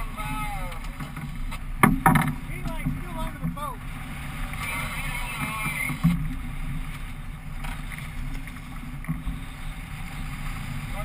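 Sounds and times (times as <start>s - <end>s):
outboard motor humming: 0.0s - 11.0s
water noise: 0.0s - 11.0s
wind: 0.0s - 11.0s.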